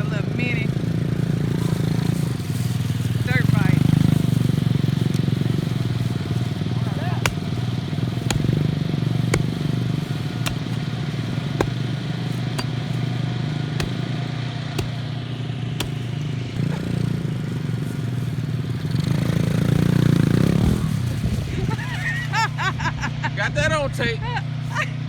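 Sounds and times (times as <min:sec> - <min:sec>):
dirt bike engine running: 0:00.0 - 0:21.7.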